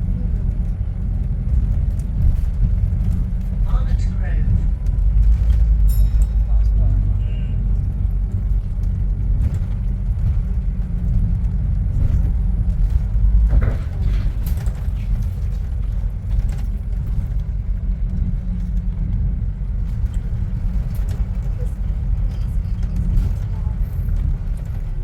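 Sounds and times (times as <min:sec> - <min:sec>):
bus engine rumble: 0:00.0 - 0:25.0
road noise: 0:00.0 - 0:25.0.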